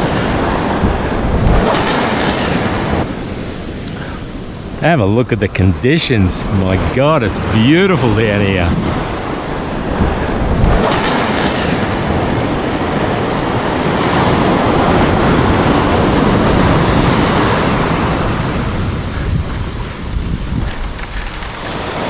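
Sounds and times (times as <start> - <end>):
surf washing onto beach: 0.0 - 22.0
wind on microphone: 0.0 - 22.0.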